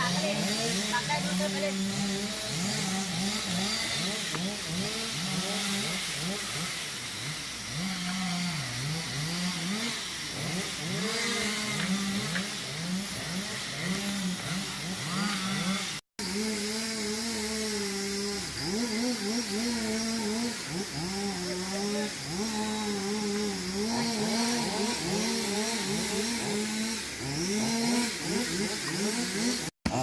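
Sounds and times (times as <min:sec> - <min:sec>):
small engine revving: 0:00.0 - 0:30.0.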